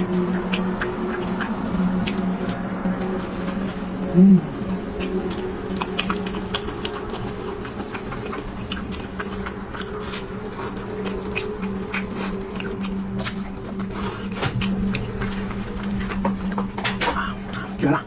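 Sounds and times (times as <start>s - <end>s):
chewing with small clicks: 0.0s - 18.0s
steady low hum: 0.0s - 18.0s.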